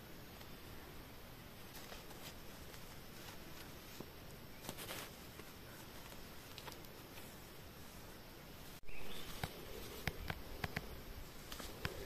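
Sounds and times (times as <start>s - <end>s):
quiet background hiss: 0.0s - 12.0s
faint clicks and rustles: 1.5s - 12.0s.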